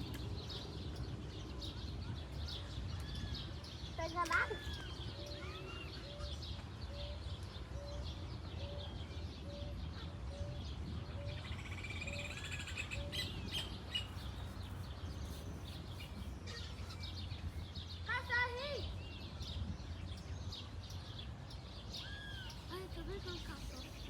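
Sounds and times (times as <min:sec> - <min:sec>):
birds chirping and whistling: 0:00.0 - 0:24.0.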